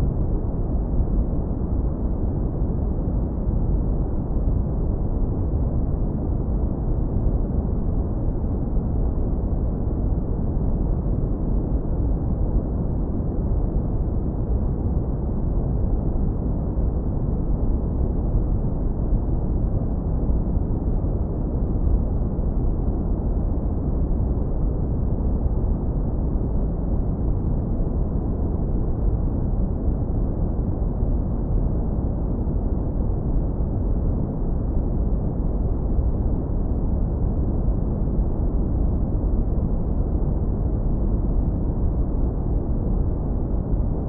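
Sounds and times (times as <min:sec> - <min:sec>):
deep brown noise rumble: 0:00.0 - 0:44.0.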